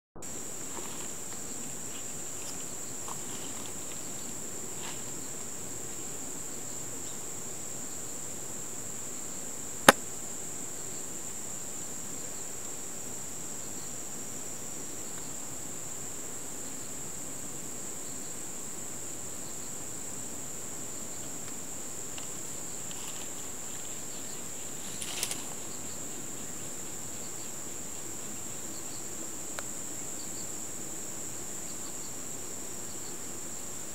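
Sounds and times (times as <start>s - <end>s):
insects chirring: 0.2s - 33.9s.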